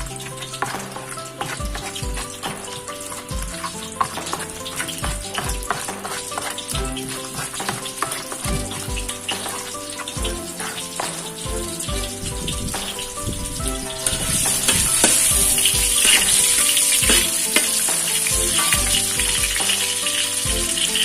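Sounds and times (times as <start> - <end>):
background music with low beat: 0.0 - 21.0
ginger sizzling in hot oil: 0.0 - 21.0.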